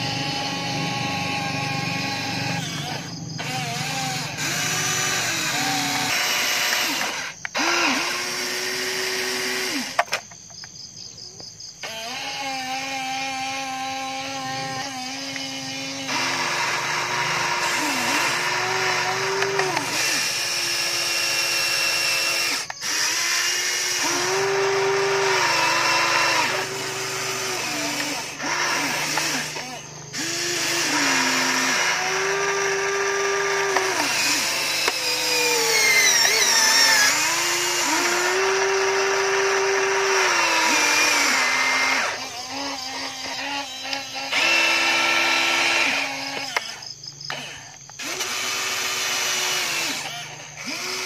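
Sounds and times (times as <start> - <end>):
electric motors whining: 0.0 - 10.8, 11.4 - 51.0.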